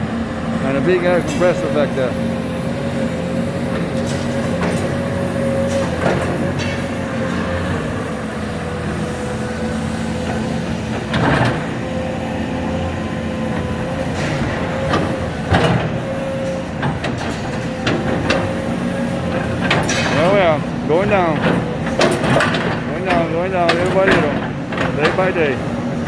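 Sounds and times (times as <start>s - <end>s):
diesel excavators running: 0.0s - 26.0s
demolition clanks and crashes: 0.5s - 26.0s.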